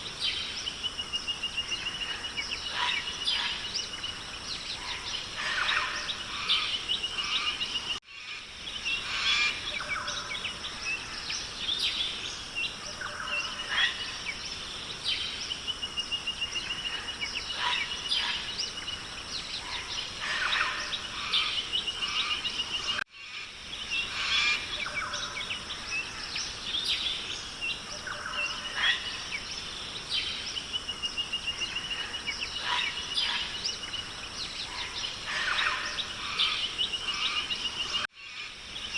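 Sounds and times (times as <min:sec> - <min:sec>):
birds chirping and calling: 0:00.0 - 0:38.9
steady high hiss: 0:00.0 - 0:38.9.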